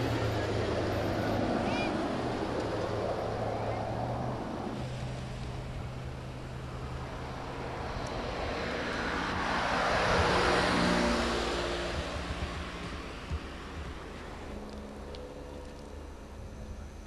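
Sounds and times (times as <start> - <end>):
steady low hum: 0.0 - 17.0
vehicle passing by: 0.0 - 17.0.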